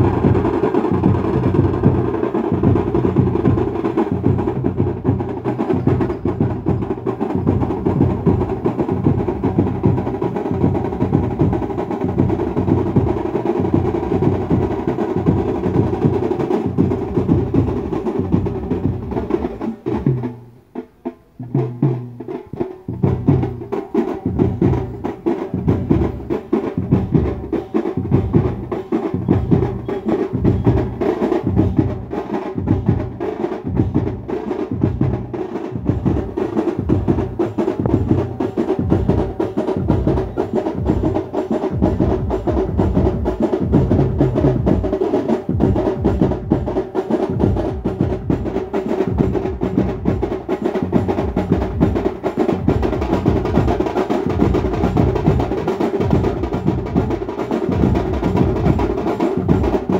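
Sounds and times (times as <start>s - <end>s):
drum-heavy band music over loudspeakers: 0.0s - 59.9s.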